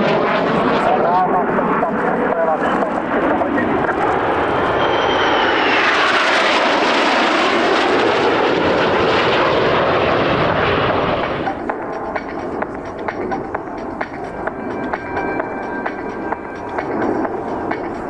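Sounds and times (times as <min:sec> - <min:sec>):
aircraft passing overhead: 0:00.0 - 0:18.0.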